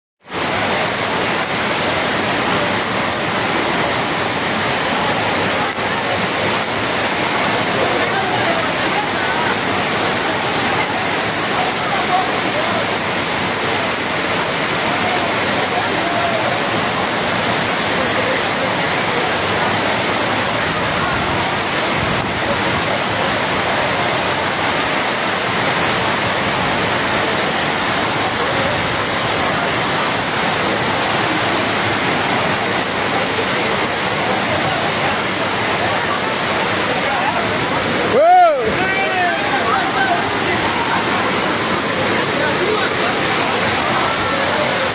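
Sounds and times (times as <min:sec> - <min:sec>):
running water: 0:00.2 - 0:44.9
heavy rain: 0:00.3 - 0:44.9.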